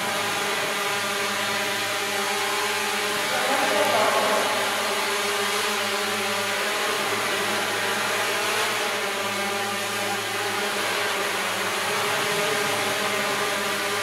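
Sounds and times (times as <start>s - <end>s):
drone propellers whirring: 0.0s - 14.0s.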